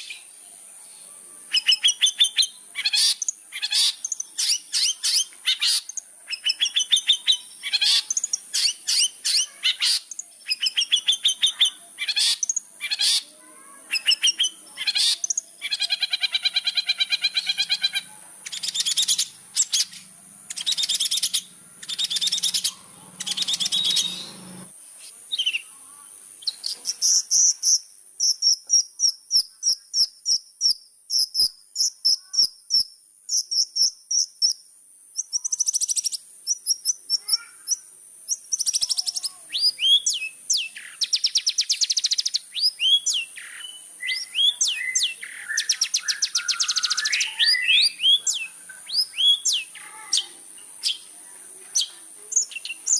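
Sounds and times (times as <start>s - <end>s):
bird singing varied song: 0.0s - 52.9s.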